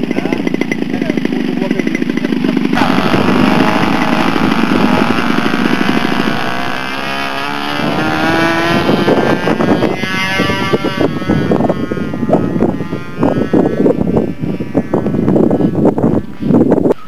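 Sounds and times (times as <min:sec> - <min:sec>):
model airplane engine revving: 0:00.0 - 0:16.4.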